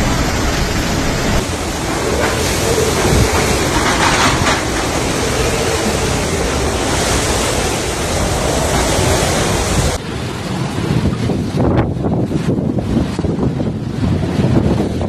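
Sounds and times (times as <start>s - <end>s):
strong wind rushing: 0.0s - 15.0s
wind buffeting microphone: 0.0s - 15.0s.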